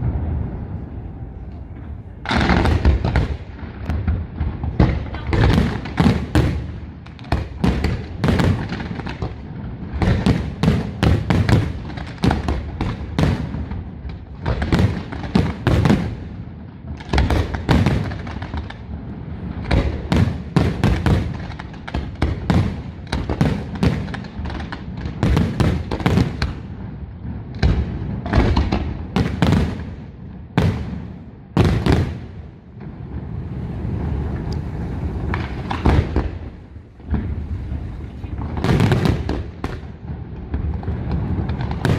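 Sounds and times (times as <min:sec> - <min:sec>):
fireworks bursting and booming: 0:00.0 - 0:41.9.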